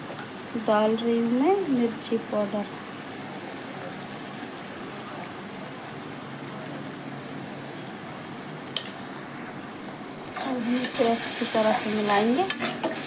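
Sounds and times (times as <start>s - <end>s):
paste bubbling and sizzling in oil: 0.0s - 13.0s.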